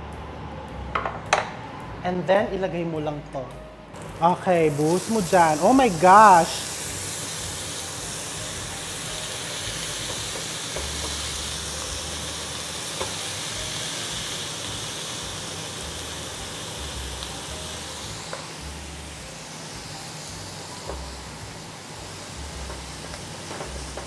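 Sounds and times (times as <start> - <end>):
meat sizzling on a hot plate: 4.0 - 24.0.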